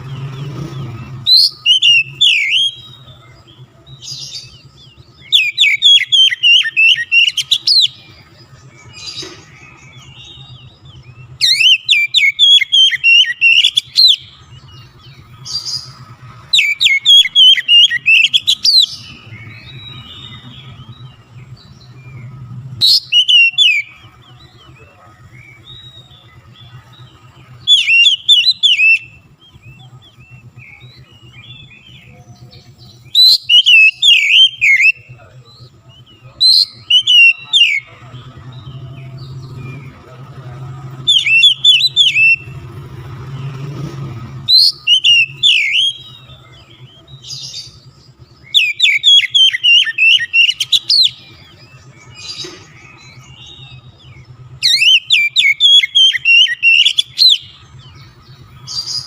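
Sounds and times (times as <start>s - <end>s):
magpie-robin singing whistled phrases: 0.0s - 42.7s, 44.4s - 59.0s.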